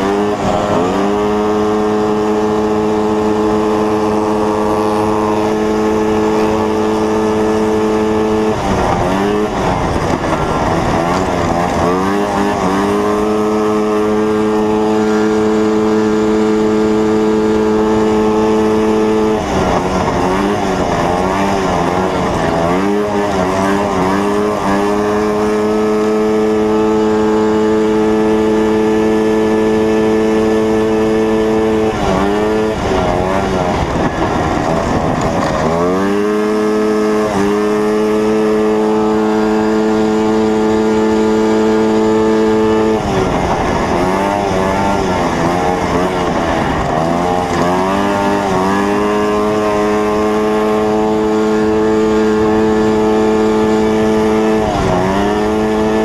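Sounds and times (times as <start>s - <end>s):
snowmobile engine running hard: 0.0s - 56.0s.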